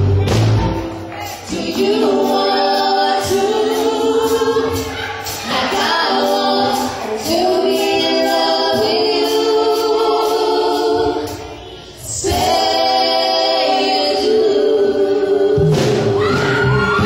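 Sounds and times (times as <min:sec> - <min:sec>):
women singing duet: 0:01.2 - 0:17.0.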